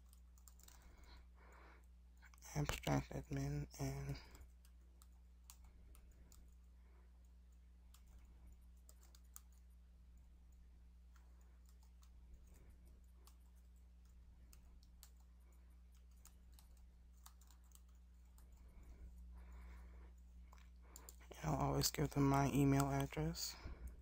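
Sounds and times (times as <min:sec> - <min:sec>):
keyboard typing: 0:00.0 - 0:23.4
low electrical hum: 0:00.0 - 0:24.0.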